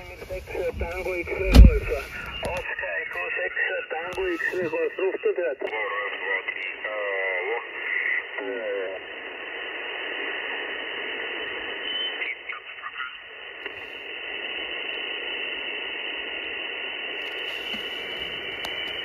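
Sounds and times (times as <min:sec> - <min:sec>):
radio band noise hiss: 0:00.0 - 0:19.0.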